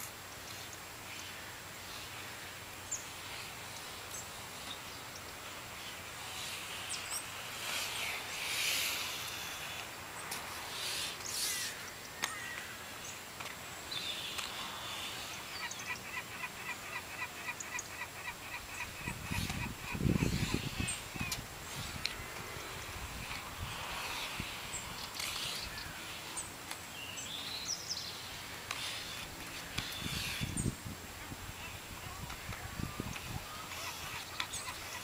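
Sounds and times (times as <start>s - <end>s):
birds chirping: 0.0s - 30.8s, 31.5s - 35.0s.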